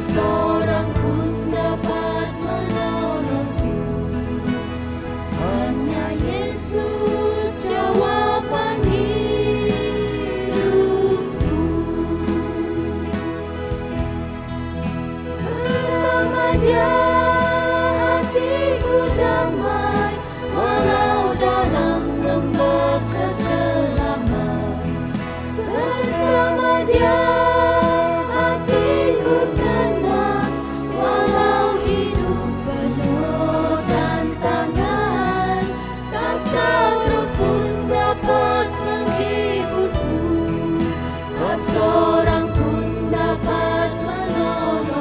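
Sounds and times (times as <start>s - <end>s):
backing music: 0.0s - 45.0s
group singing worship song: 0.0s - 45.0s.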